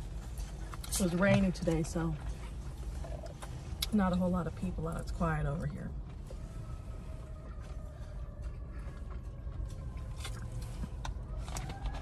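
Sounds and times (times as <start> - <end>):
low car interior rumble: 0.0 - 12.0.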